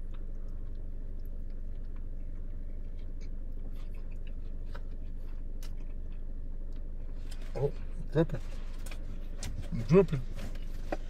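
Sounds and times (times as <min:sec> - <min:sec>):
chewing crunchy food: 0:00.0 - 0:11.0
steady low hum: 0:00.0 - 0:11.0.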